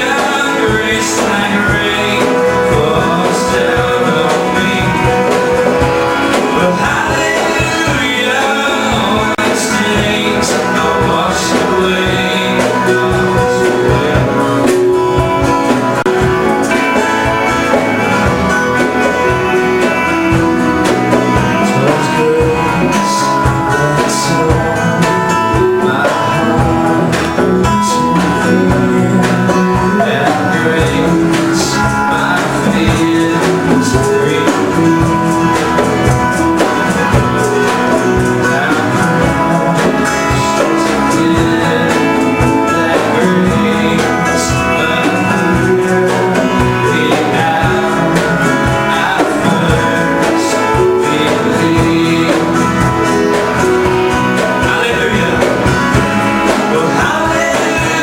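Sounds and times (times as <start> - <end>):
person singing: 0.0 - 58.0
steady drum beat: 0.0 - 58.0
strummed guitars: 0.0 - 58.0.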